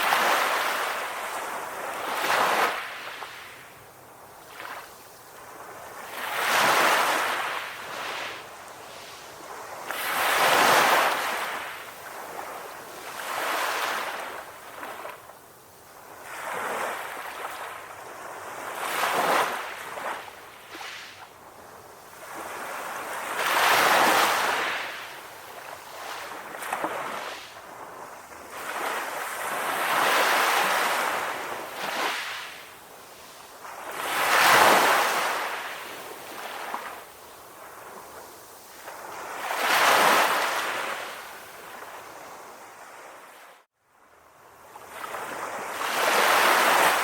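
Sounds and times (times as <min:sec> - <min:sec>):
sea waves breaking on shore: 0:00.0 - 0:43.7, 0:44.6 - 0:47.0.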